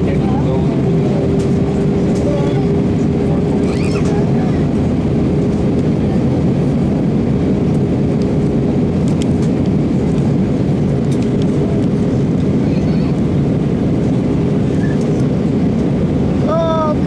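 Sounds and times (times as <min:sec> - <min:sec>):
aircraft cabin engine rush: 0:00.0 - 0:17.0.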